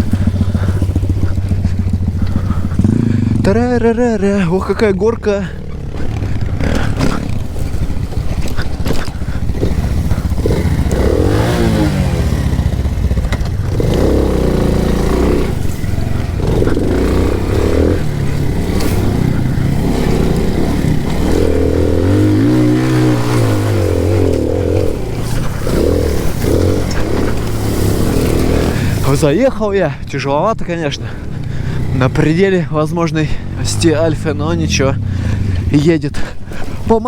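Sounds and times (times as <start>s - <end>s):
moped engine labouring uphill: 0.0s - 37.0s.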